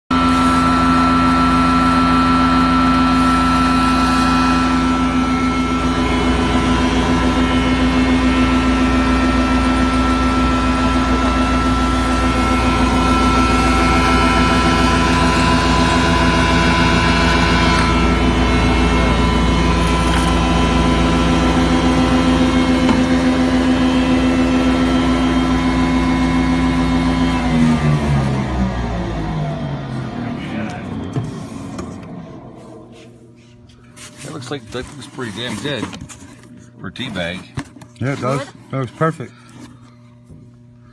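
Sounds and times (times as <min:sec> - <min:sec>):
grinder machine humming: 0:00.1 - 0:40.9.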